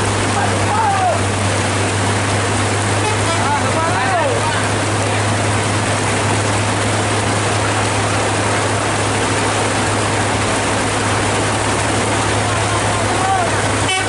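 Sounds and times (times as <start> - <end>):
heavy rain pouring: 0.0 - 14.0
low engine hum: 0.0 - 14.0.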